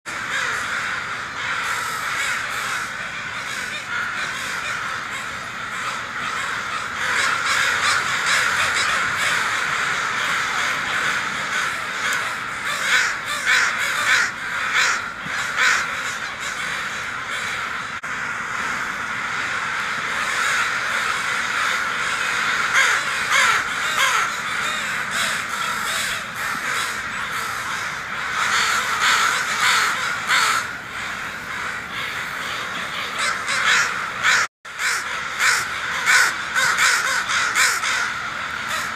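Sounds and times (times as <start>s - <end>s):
crows cawing: 0.0s - 38.9s.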